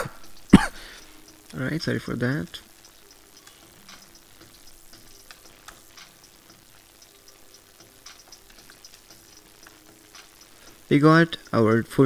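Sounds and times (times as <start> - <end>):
faint steady hum: 0.0 - 12.0
low hiss: 0.0 - 12.0.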